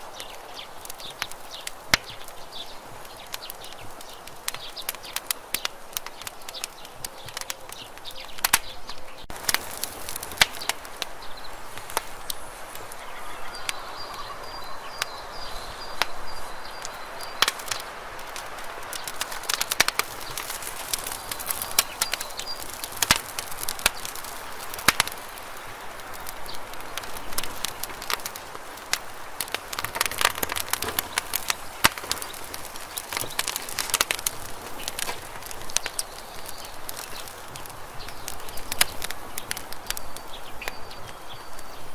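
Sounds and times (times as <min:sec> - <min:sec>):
campfire crackling and popping: 0:00.0 - 0:41.9
fire hiss: 0:00.0 - 0:41.9.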